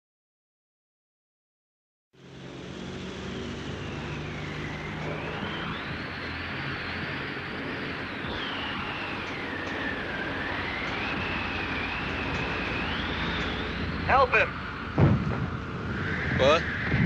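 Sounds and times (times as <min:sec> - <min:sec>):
aircraft engines droning: 0:02.2 - 0:17.0
high whine rising and falling: 0:02.2 - 0:17.0.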